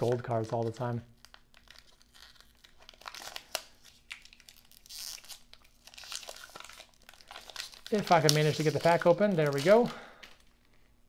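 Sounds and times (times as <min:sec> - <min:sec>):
paper wrapper crinkling and tearing: 0:00.0 - 0:10.7.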